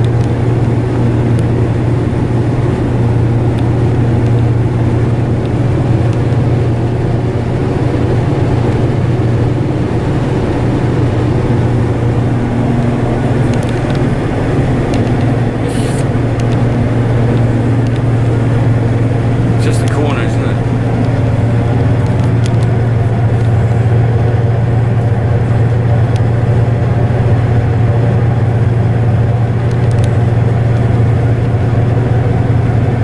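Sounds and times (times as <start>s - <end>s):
harvester engine drone: 0.0s - 33.0s.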